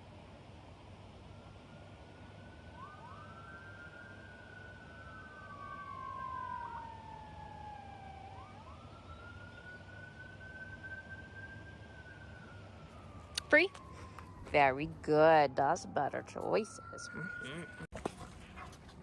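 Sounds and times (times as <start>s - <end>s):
distant siren wailing: 0.3s - 19.0s.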